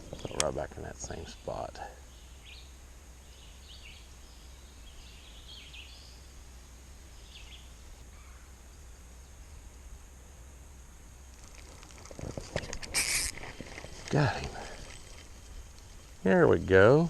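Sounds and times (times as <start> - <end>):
faint bird calls: 0.0 - 9.6, 11.2 - 16.3
low outdoor hum: 0.0 - 17.0.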